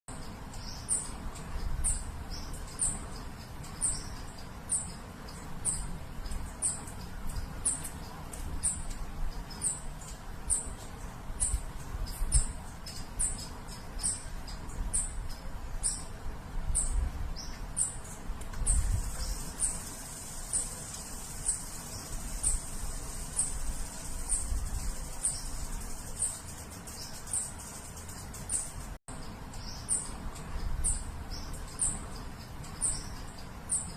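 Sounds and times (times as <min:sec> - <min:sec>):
high thin chirp: 0:00.1 - 0:33.9
steady high hiss: 0:00.1 - 0:33.9.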